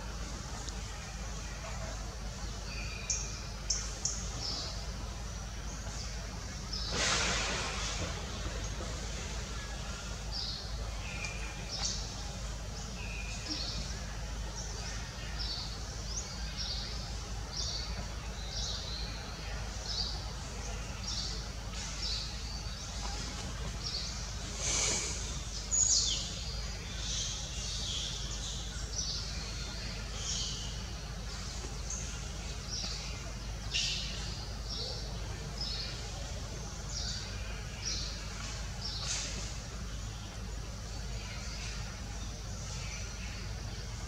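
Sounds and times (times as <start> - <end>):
low background hum: 0.0 - 44.0
small birds chirping: 0.1 - 44.0.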